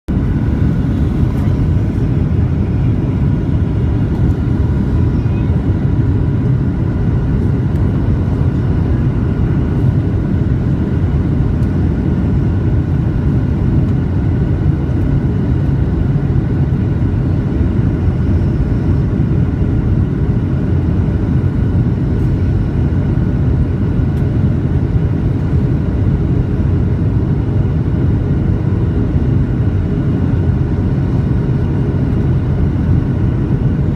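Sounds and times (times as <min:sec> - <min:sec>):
airliner engines rumbling: 0:00.1 - 0:33.9.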